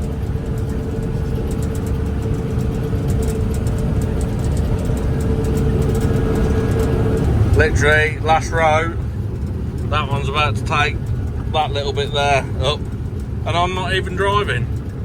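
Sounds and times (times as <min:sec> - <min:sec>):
combine harvester rumbling: 0:00.0 - 0:15.0.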